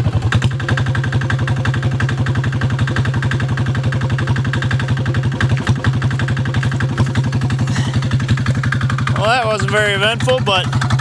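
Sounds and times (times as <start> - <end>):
small diesel engine running: 0.0 - 11.0.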